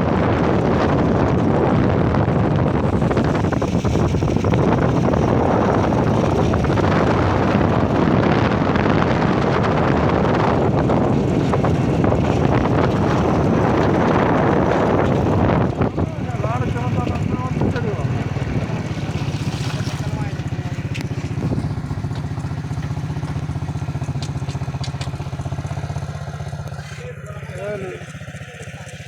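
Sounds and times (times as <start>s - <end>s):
wind rushing on microphone: 0.0s - 26.6s
motor running: 0.0s - 29.0s.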